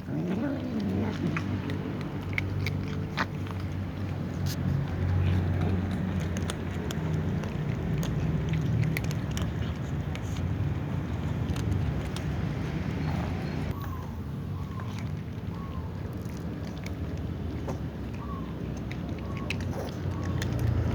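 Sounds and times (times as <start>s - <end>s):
engine running with low hum: 0.0s - 20.9s.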